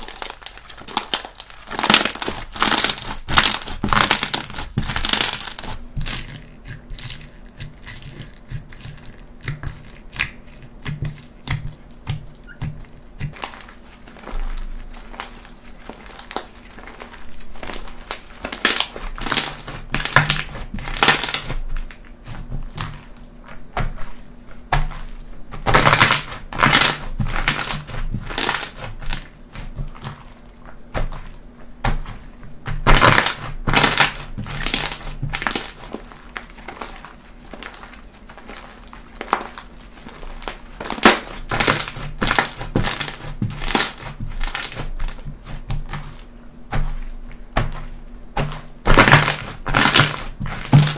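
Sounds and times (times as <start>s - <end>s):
slime squished by hand: 0.0s - 50.9s.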